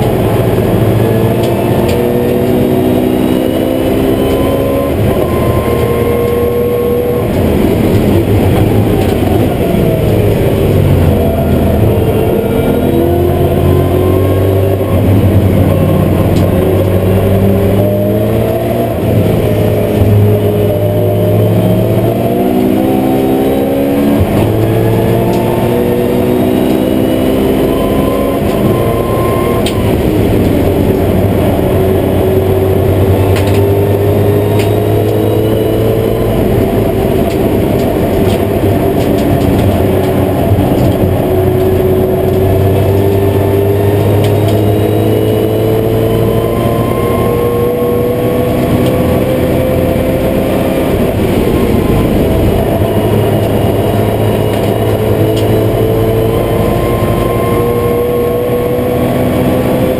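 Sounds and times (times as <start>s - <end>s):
race car engine revving from cabin: 0.0s - 59.9s.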